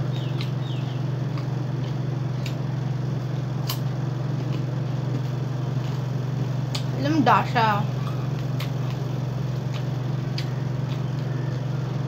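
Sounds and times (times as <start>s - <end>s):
crunchy fruit chewing: 0.0s - 12.0s
steady low hum: 0.0s - 12.0s.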